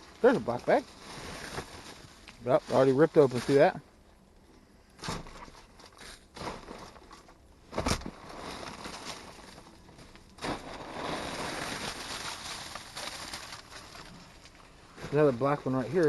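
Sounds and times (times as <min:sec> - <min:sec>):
trash bags rustling: 0:00.0 - 0:03.8, 0:05.0 - 0:16.0.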